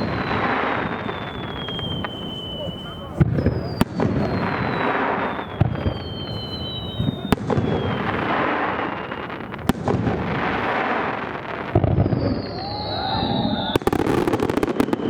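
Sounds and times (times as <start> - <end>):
firework whistles falling in pitch: 0.0 - 9.8, 11.6 - 15.0
crackling sizzling firework shells: 0.0 - 15.0
firework bangs: 0.0 - 15.0.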